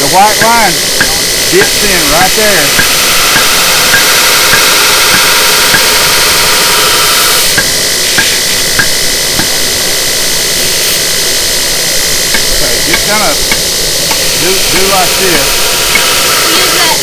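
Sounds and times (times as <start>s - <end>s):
belt grinder grinding blade: 0.0s - 17.0s.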